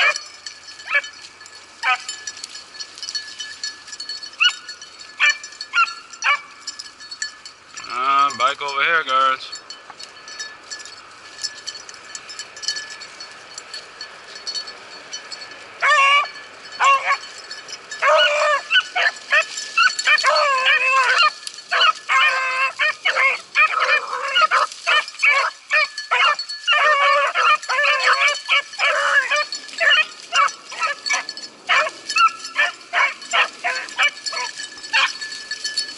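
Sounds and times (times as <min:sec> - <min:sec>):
hounds baying: 0:00.0 - 0:35.9.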